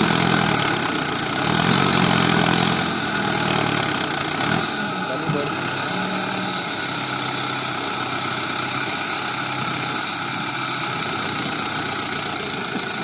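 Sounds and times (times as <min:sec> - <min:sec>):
loader bucket pushing soil: 0:00.0 - 0:13.0
tractor diesel engine running: 0:00.0 - 0:13.0.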